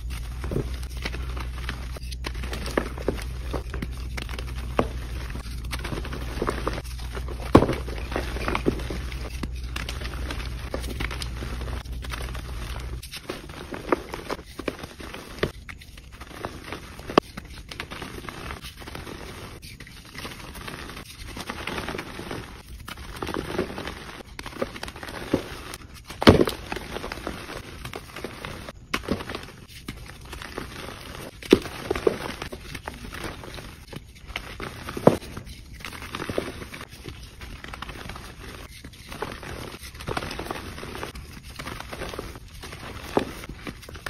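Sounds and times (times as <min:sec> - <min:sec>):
hands crumbling chalk blocks: 0:00.0 - 0:44.0.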